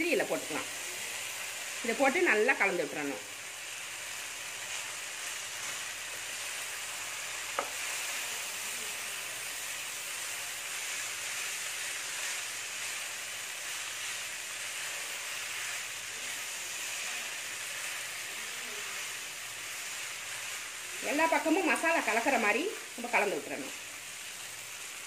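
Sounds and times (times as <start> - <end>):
noodles sizzling in a pan: 0.0 - 25.0.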